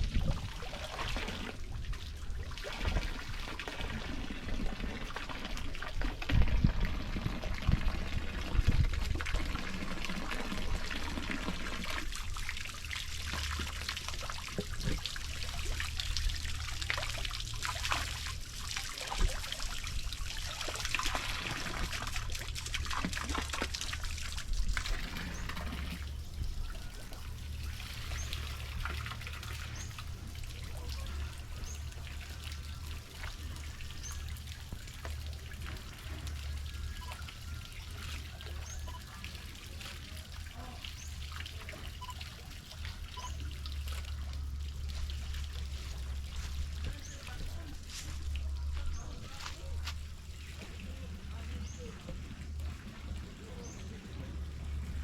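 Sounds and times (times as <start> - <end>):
steady low rumble: 0.0 - 37.1, 43.2 - 55.0
water trickling and splashing: 0.0 - 55.0.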